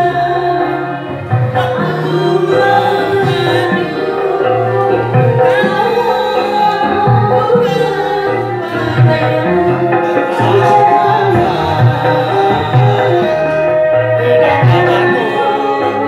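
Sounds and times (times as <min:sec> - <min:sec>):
backing music with bass line: 0:00.0 - 0:16.0
woman singing into microphone: 0:00.0 - 0:16.0.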